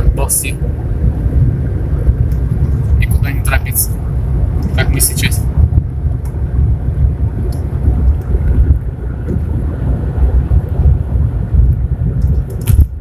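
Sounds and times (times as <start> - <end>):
car engine and road rumble: 0.0 - 13.0
wind buffeting microphone: 0.0 - 13.0.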